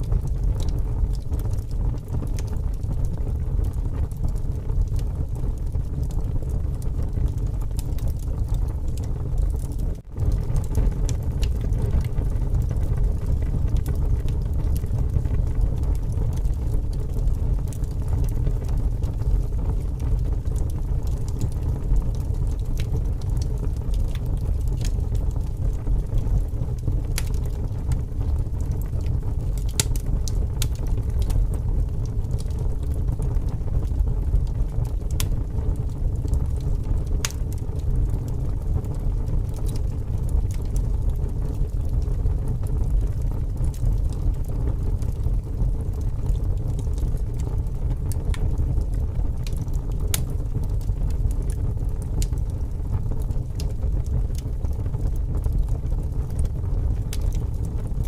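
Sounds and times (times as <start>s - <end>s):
strong wind rumble: 0.0s - 58.0s
wood fire crackling: 0.0s - 58.0s.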